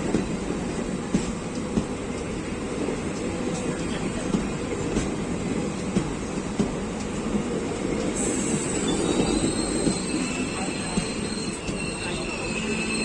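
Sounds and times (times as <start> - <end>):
passenger train rumbling past: 0.0 - 13.0.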